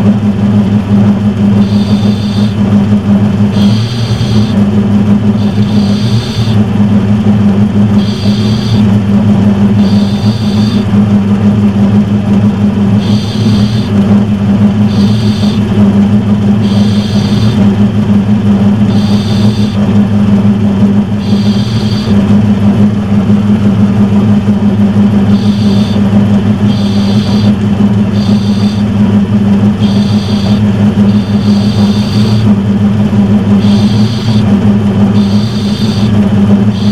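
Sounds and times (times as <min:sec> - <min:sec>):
high-pitched whine: 0:00.0 - 0:36.9
metal lathe motor hum: 0:00.0 - 0:36.9.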